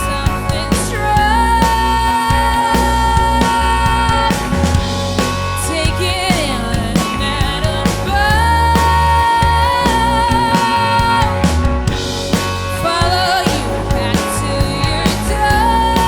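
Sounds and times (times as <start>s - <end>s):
person singing: 0.0s - 4.6s, 5.6s - 11.8s, 12.8s - 16.0s
rock band playing live: 0.0s - 16.0s.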